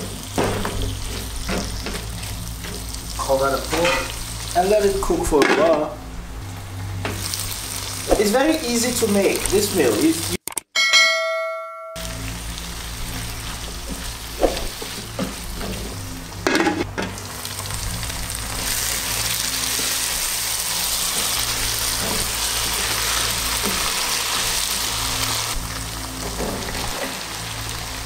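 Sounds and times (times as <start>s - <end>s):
vegetables sizzling in hot oil: 0.0s - 5.2s, 6.4s - 10.4s, 12.0s - 28.0s.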